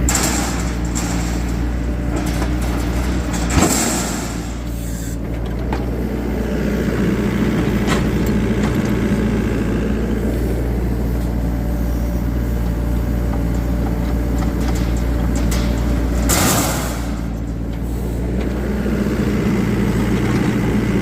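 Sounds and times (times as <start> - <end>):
engine humming steadily: 0.0 - 21.0.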